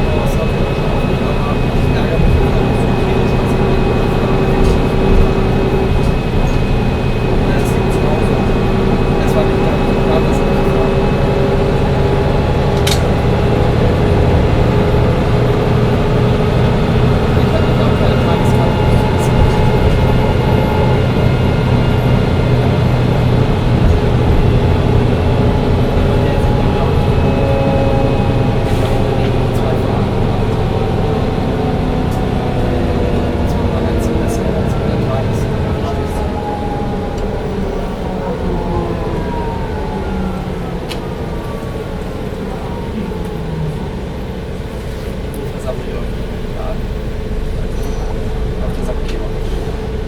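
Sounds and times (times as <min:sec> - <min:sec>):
bus diesel engine droning: 0:00.0 - 0:50.0
falling whine: 0:00.0 - 0:50.0.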